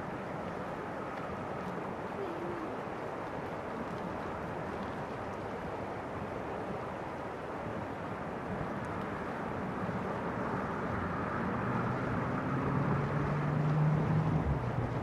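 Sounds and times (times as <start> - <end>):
river rushing over gravel: 0.0 - 15.0.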